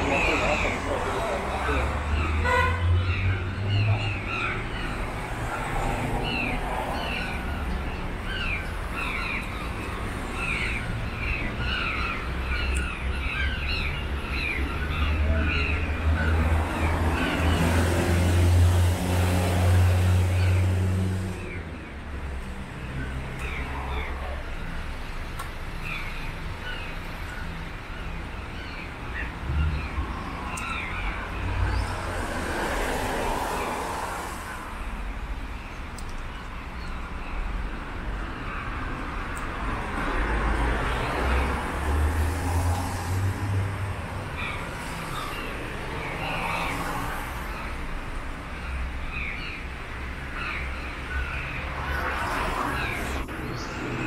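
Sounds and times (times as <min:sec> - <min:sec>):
low traffic rumble: 0:00.0 - 0:54.0
vehicles passing: 0:00.0 - 0:54.0.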